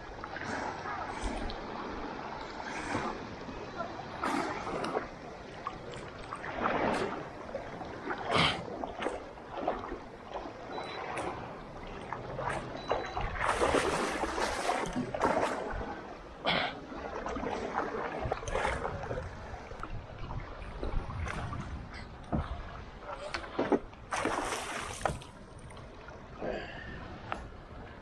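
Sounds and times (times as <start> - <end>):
wading splashes in water: 0.0 - 28.0.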